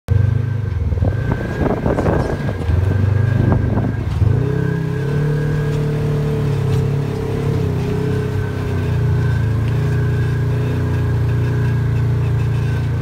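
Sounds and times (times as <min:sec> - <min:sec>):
engine clattering: 0:00.1 - 0:13.0
engine running: 0:00.1 - 0:13.0
high-pitched belt squeal: 0:01.2 - 0:13.0.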